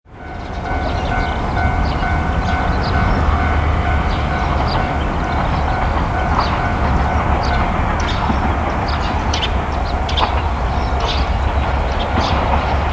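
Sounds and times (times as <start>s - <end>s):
diesel train engine rumble: 0.1s - 12.9s
train whine: 0.1s - 12.9s.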